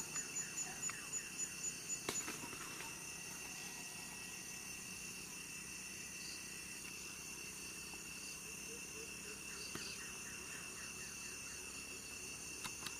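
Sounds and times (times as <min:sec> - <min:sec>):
high-pitched insect drone: 0:00.0 - 0:12.9.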